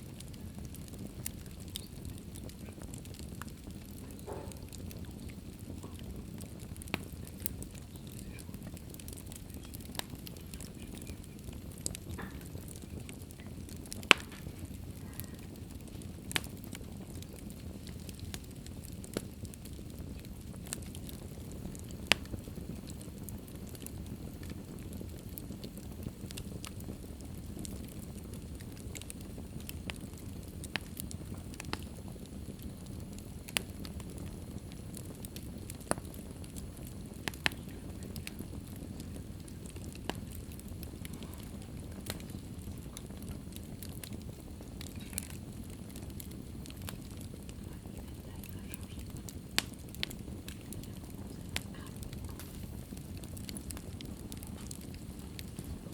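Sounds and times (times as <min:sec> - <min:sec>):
fire hissing and rumbling: 0:00.0 - 0:55.9
wood fire crackling and popping: 0:00.0 - 0:55.9.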